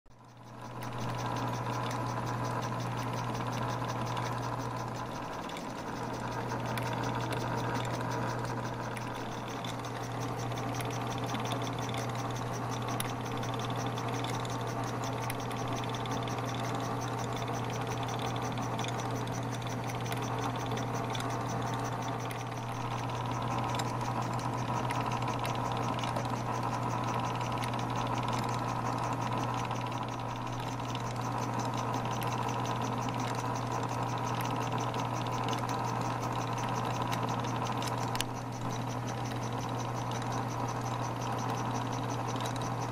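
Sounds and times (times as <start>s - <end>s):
light ticking of pulleys: 0.1s - 42.9s
toy steam engine mechanical whir: 0.1s - 42.9s.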